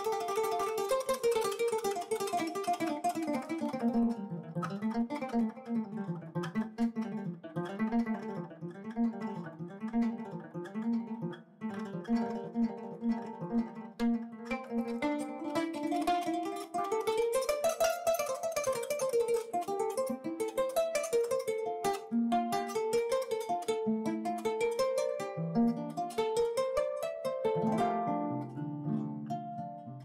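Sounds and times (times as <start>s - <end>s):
plucked guitar music: 0.0s - 30.0s.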